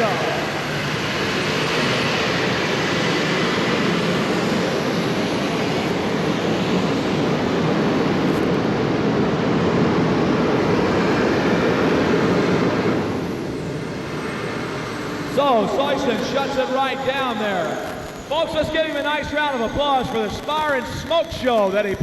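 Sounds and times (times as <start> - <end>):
aircraft engine roaring: 0.0 - 22.0.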